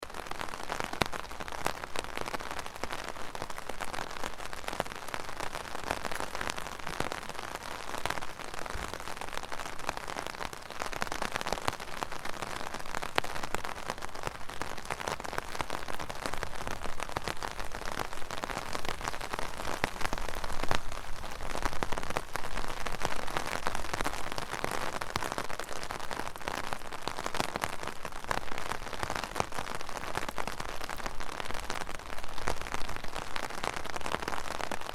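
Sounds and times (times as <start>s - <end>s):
rain on a hard surface: 0.0s - 34.9s.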